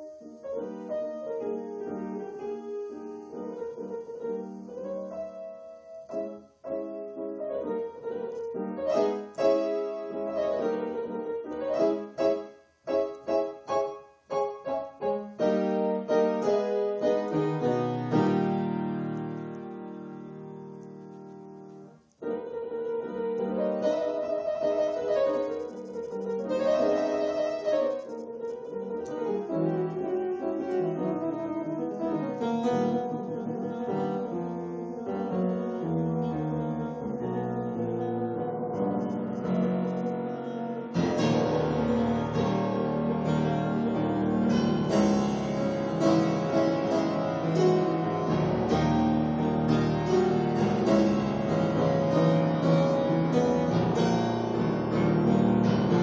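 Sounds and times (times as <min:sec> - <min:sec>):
grand piano improvisation: 0:00.0 - 0:56.0.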